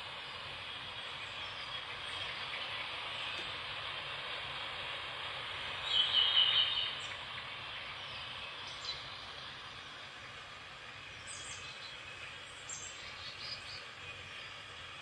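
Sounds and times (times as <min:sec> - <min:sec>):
rain: 0:00.0 - 0:15.0
birds chirping: 0:00.1 - 0:03.6, 0:05.5 - 0:15.0.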